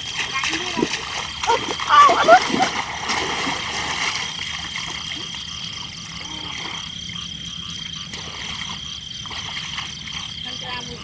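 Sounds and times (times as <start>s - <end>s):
frogs croaking in chorus: 0.1s - 11.0s.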